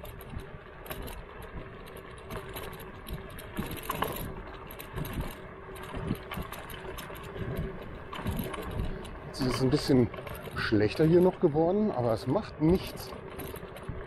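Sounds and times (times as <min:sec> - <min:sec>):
scooter frame rattling: 0:00.0 - 0:14.0
scooter rolling on bumpy road: 0:00.0 - 0:14.0.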